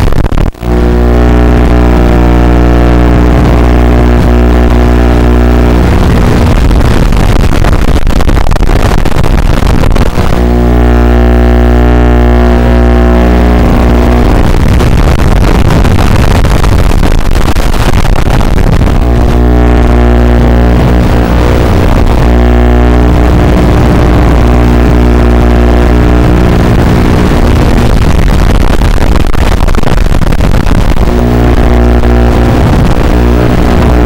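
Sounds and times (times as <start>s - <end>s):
electrical buzz of hum tones: 0.0s - 34.0s
rushing static hiss: 0.0s - 34.0s.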